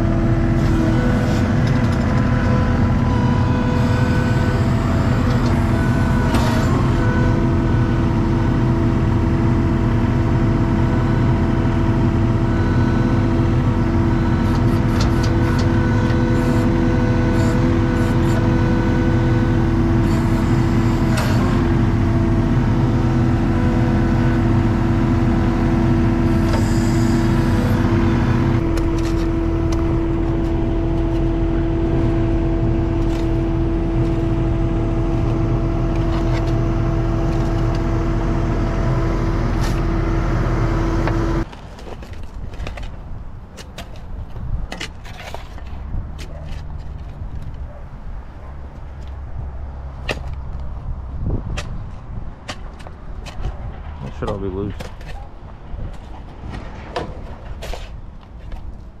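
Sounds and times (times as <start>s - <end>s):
track loader engine running: 0.0s - 59.0s.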